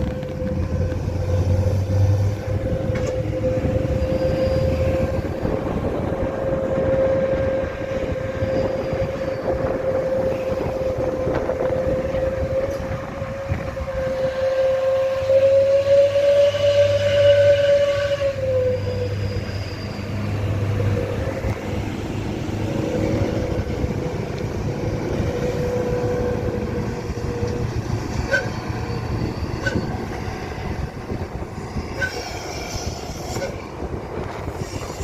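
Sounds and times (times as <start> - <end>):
heavy truck engine: 0.0 - 13.9, 19.0 - 35.0
engine whine: 0.0 - 35.0.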